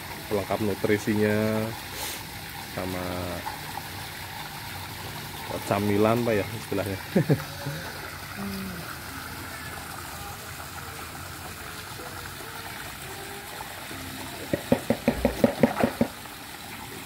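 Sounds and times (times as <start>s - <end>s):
water splashing into pond: 0.0s - 17.0s.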